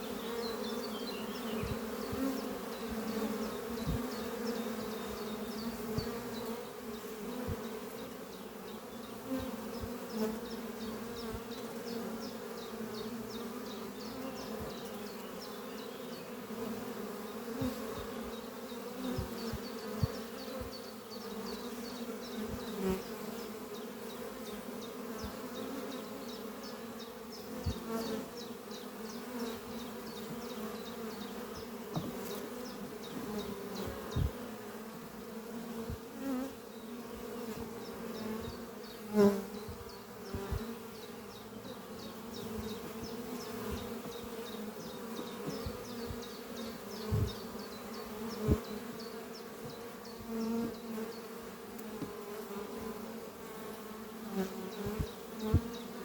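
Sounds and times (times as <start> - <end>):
bee buzzing past close: 0.0 - 56.0
honeybees buzzing: 0.0 - 56.0.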